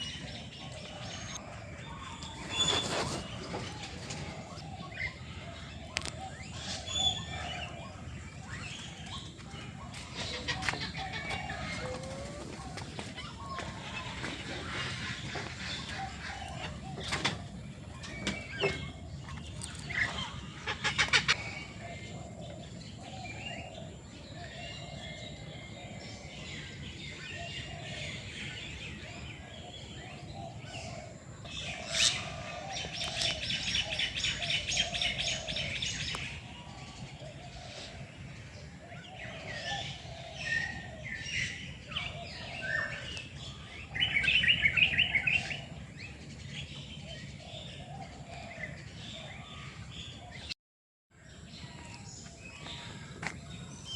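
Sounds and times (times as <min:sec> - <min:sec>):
birds chirping and calling: 0:00.0 - 0:50.6, 0:51.2 - 0:53.9.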